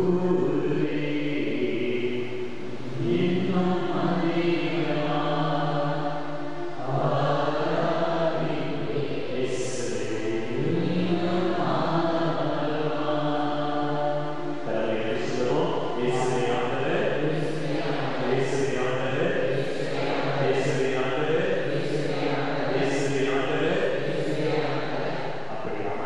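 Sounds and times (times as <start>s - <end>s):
man chanting a hymn: 0.0s - 26.0s.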